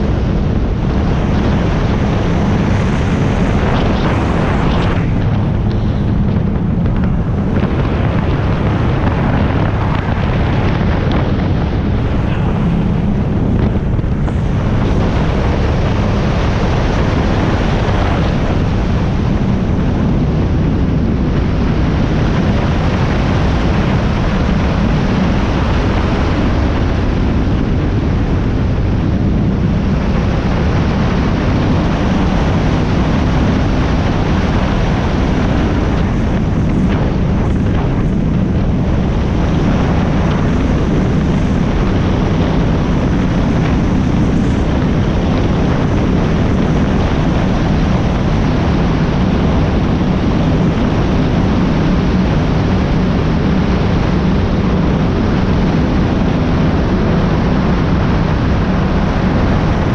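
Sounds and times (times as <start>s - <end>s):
powerboat engines droning: 0.0s - 59.9s
wind on microphone: 0.0s - 59.9s.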